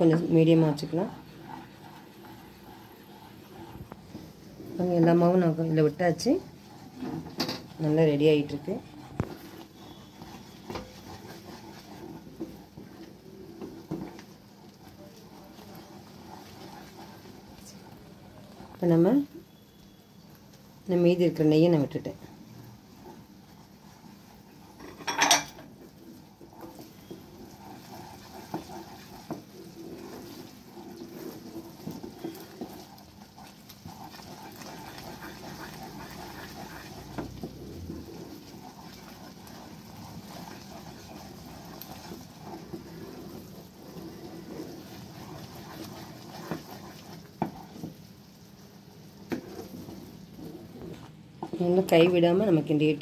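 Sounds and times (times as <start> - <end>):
spatula stirring thick batter: 0.0 - 53.0.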